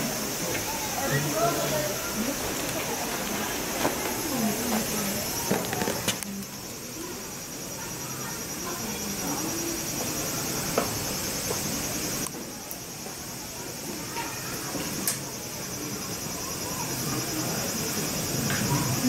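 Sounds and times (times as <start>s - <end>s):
faint distant voices: 0.0s - 19.0s
night insects chorus: 0.0s - 19.0s.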